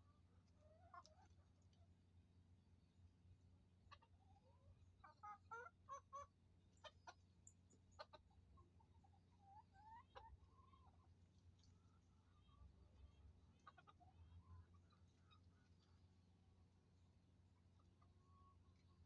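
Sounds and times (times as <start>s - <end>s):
hens clucking: 0.1s - 1.8s, 3.8s - 19.0s.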